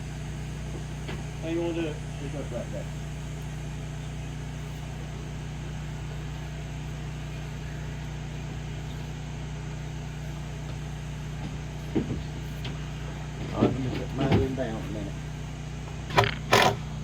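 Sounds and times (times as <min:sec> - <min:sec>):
steady low engine hum: 0:00.0 - 0:17.0.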